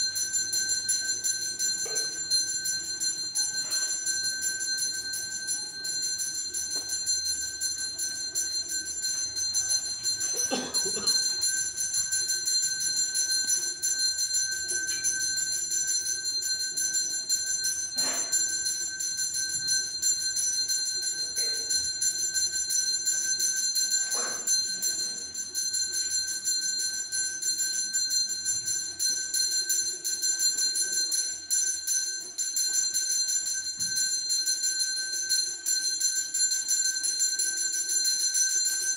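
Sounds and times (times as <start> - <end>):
bell ringing rapidly: 0.0 - 38.9.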